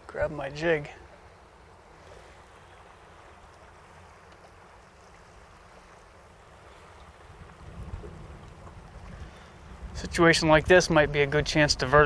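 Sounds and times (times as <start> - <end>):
faint wind: 0.0 - 12.0
moving water: 0.0 - 12.0.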